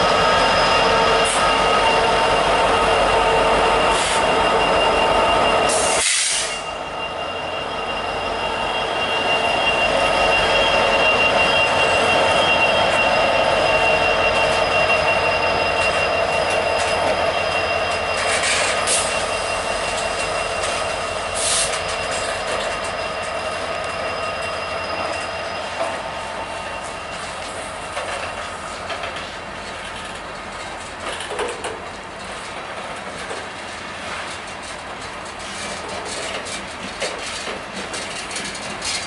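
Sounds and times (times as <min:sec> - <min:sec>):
freight train rolling past: 0:00.0 - 0:39.0
wheels squealing on rails: 0:00.0 - 0:39.0.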